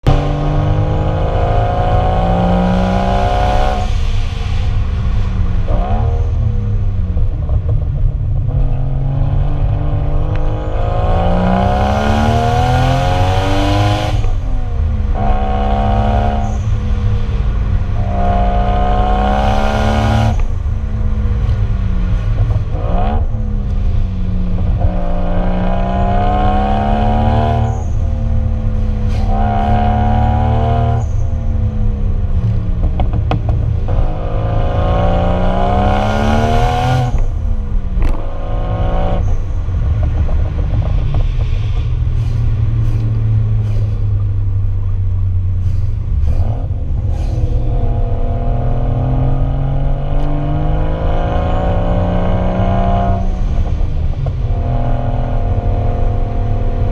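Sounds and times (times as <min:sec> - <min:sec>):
car engine revving with gear changes: 0:00.0 - 0:56.9
low exhaust rumble: 0:00.0 - 0:56.9.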